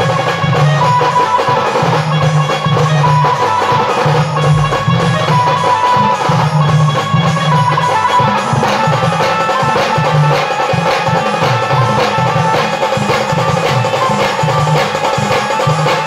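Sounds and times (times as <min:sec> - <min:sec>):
driving drumming: 0:00.0 - 0:16.0
live band melody: 0:00.0 - 0:16.0.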